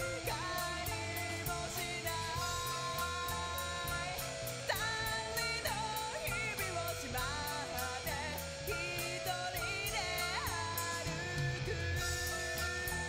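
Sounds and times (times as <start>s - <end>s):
electric guitar: 0.0s - 13.0s
pitch-sliding melody: 0.0s - 13.0s
rock music: 0.0s - 13.0s.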